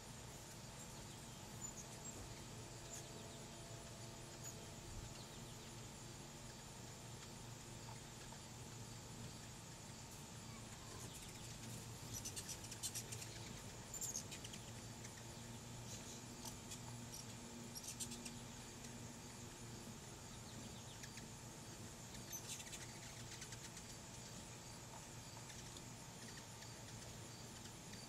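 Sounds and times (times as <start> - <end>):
hummingbirds chittering: 0.1 - 28.0.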